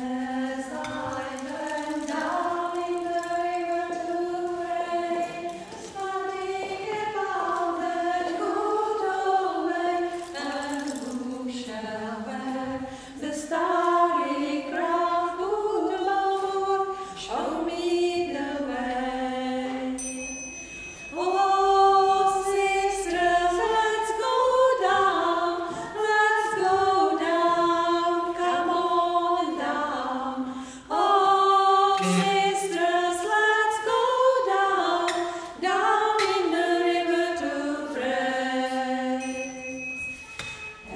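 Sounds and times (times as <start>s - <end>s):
women singing in harmony: 0.0s - 20.1s, 21.1s - 39.8s.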